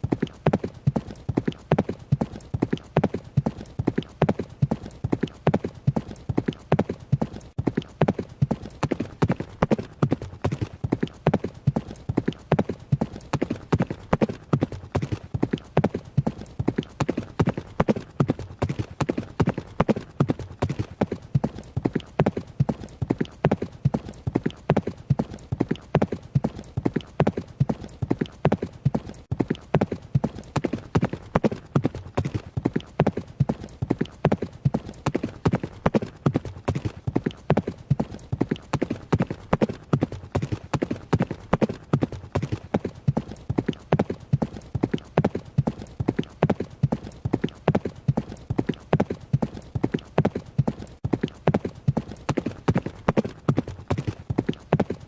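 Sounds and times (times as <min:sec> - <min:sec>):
horse hoofbeats running: 0:00.0 - 0:55.0.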